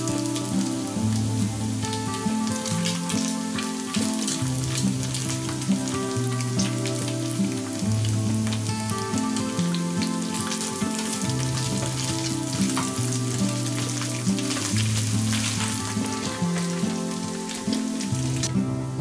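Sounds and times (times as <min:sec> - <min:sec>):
meat sizzling in a pan: 0:00.0 - 0:18.5
background music with low notes: 0:00.0 - 0:19.0.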